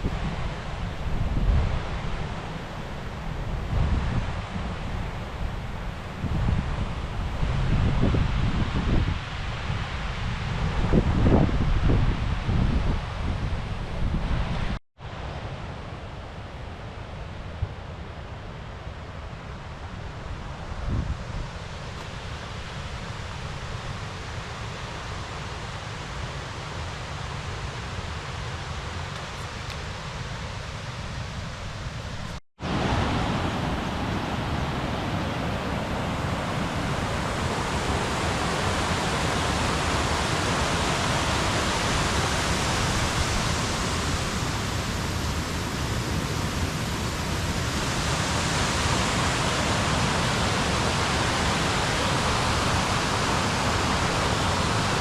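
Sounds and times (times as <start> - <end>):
mountain stream rushing: 0.0 - 13.3, 19.6 - 55.0.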